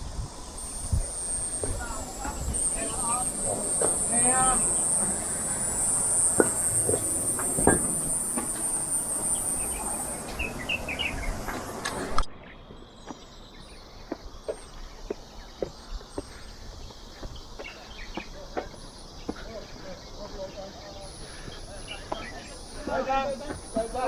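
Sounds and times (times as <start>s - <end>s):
insects droning: 0.0s - 24.0s
bird chirps: 0.3s - 24.0s
footsteps on a trail: 0.3s - 24.0s.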